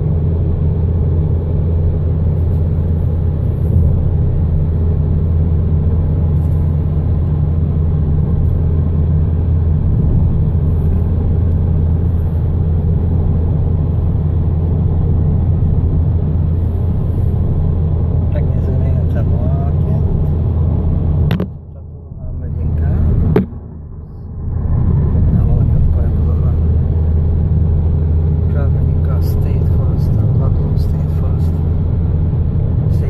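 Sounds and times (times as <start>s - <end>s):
car driving cabin rumble: 0.0s - 33.0s.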